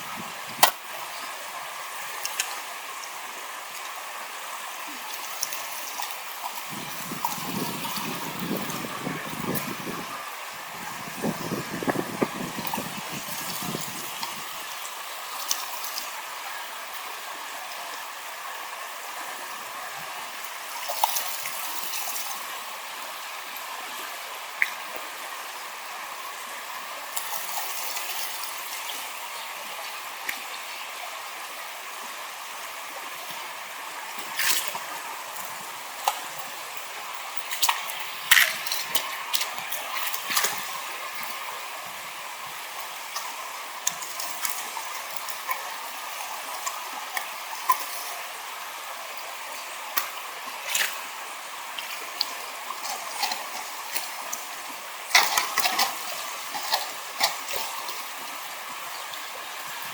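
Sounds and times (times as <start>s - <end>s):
water running through sluice: 0.0s - 59.9s
water splashes: 0.0s - 59.9s.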